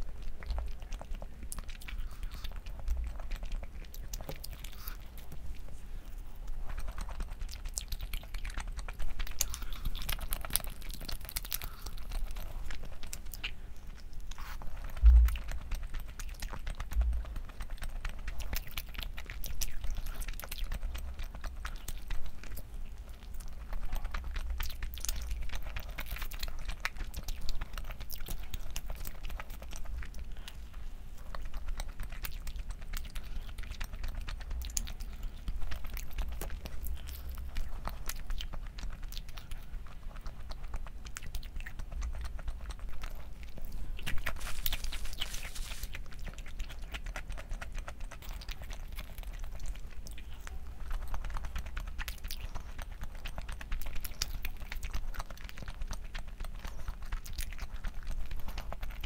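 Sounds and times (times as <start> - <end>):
person chewing with crunches: 0.0 - 59.0.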